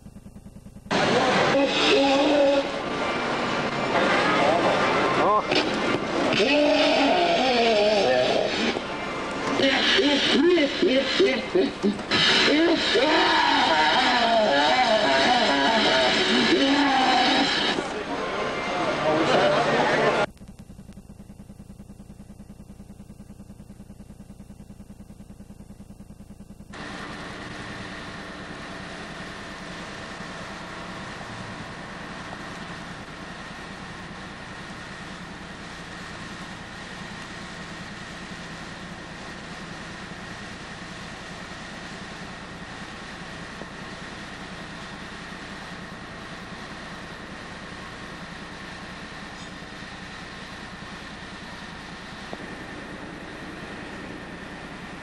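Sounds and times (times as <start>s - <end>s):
tape hiss with faint tones: 0.0s - 18.9s, 19.5s - 55.0s
low pulsing buzz: 0.0s - 55.0s.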